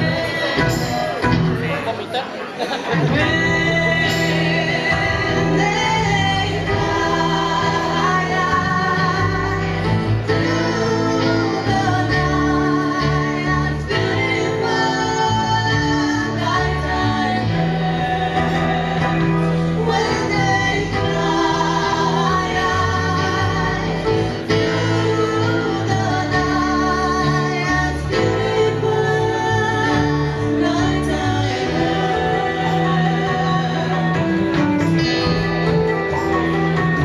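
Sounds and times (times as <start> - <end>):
woman singing: 0.0 - 1.4, 3.0 - 37.0
acoustic guitar: 0.0 - 37.0.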